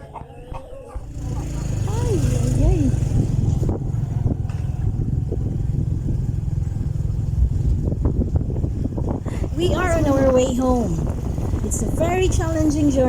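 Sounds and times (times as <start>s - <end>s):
motorcycle engine rumbling: 0.2s - 13.0s.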